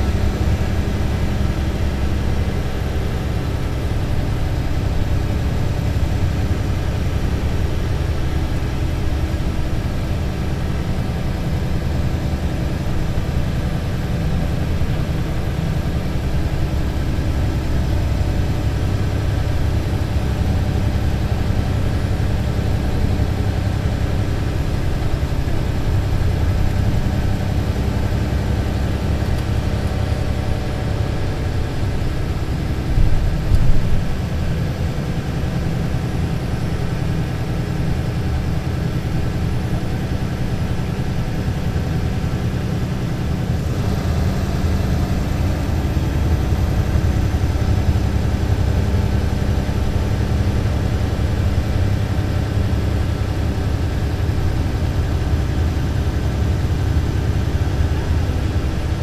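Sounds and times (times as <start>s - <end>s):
bus diesel engine droning: 0.0s - 59.0s.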